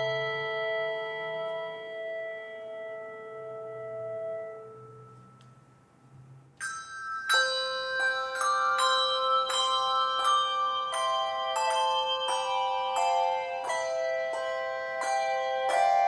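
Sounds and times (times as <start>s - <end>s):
handbell choir playing: 0.0s - 5.4s, 6.6s - 16.0s.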